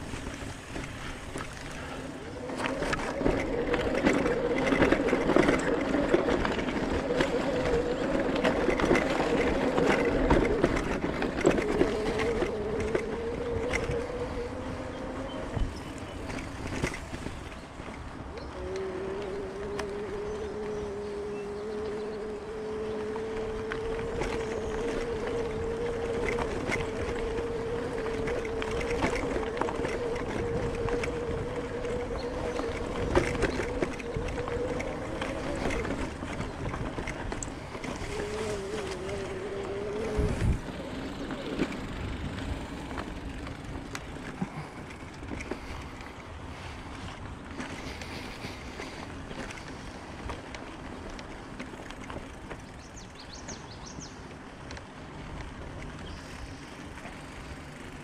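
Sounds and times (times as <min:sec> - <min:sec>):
electric bike motor whining: 0:00.0 - 0:58.0
tyres rumbling on dirt: 0:00.0 - 0:58.0.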